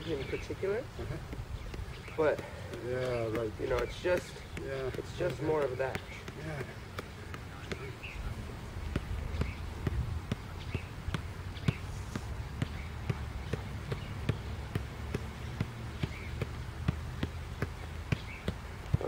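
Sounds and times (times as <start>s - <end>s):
dull kicks on soccer ball: 0.4s - 19.0s.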